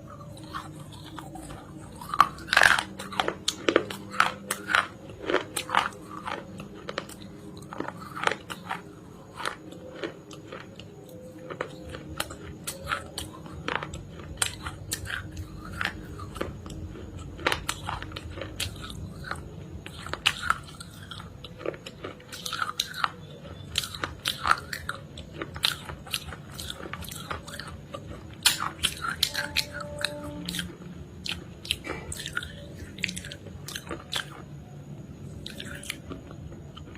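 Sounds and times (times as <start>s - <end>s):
chewing something crunchy: 0.0s - 36.9s.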